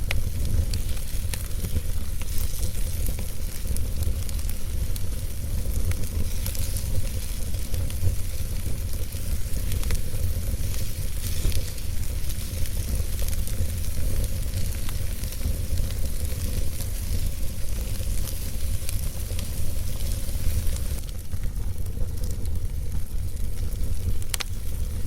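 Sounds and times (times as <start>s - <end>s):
fire low rumble: 0.0s - 25.0s
wood fire crackling and popping: 0.0s - 25.0s.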